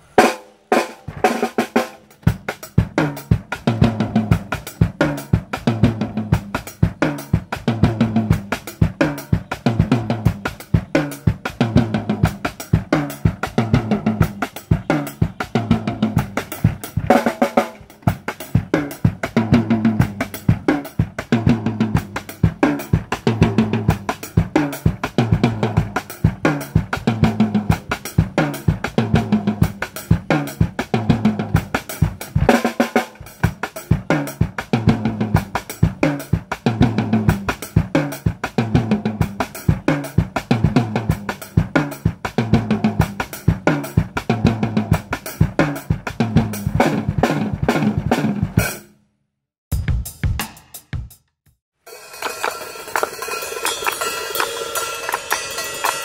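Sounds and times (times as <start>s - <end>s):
backing beat: 0.0s - 48.8s, 49.7s - 56.0s
drum kit groove: 0.0s - 48.9s, 49.7s - 56.0s.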